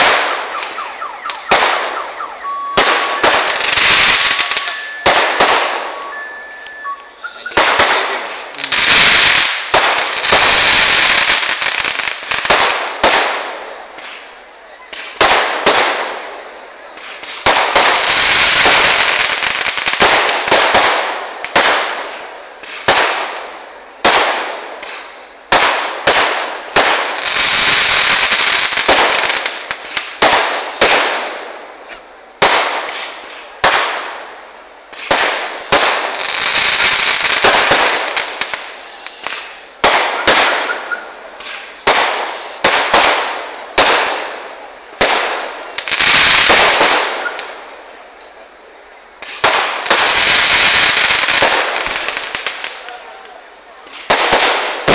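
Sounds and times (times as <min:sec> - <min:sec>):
fireworks bangs: 0:00.0 - 0:48.5, 0:49.1 - 0:54.9
fireworks crackling: 0:00.0 - 0:54.9.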